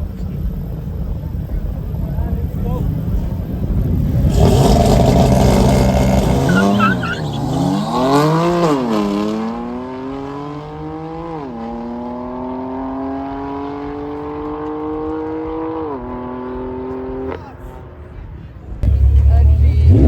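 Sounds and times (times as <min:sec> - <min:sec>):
loud tyre noise: 0:00.0 - 0:20.0
car engine revving: 0:00.5 - 0:18.0, 0:18.8 - 0:20.0.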